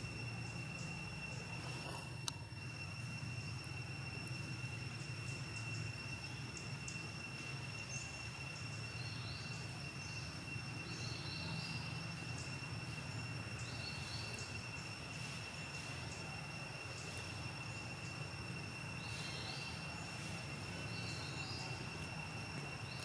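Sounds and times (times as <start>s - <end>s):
steady high-pitched tones: 0.0s - 23.0s.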